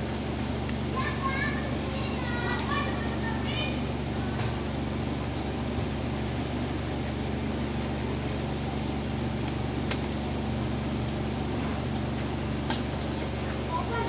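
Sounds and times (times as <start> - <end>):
machinery hum and hiss: 0.0 - 14.0.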